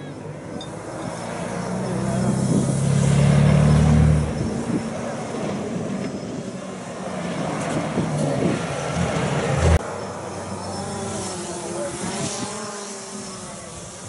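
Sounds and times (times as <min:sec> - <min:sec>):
truck engine passing by: 0:00.4 - 0:14.0.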